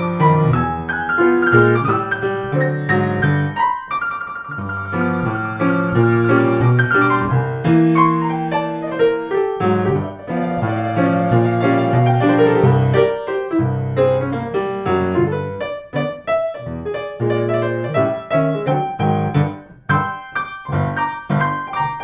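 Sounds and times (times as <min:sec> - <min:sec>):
blues piano music: 0:00.0 - 0:22.0.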